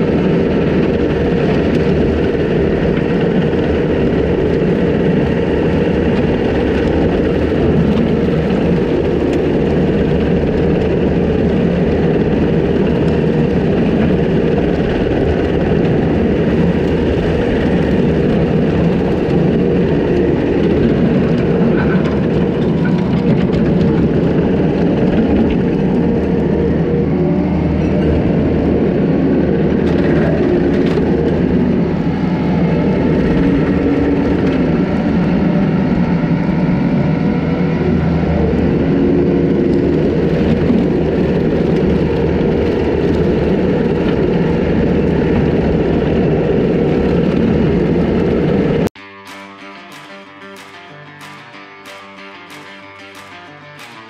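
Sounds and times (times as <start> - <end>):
diesel engine under load: 0.0 - 49.0.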